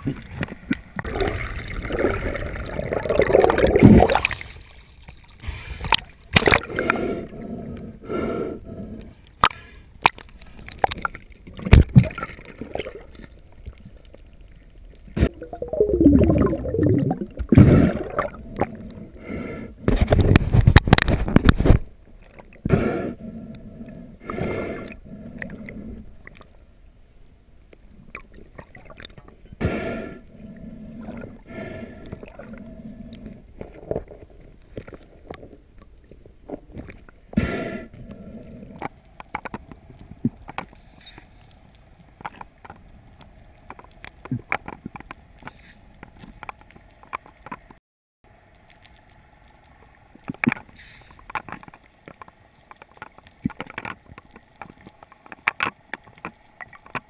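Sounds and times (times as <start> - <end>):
water gurgling and sloshing: 0.0 - 57.0.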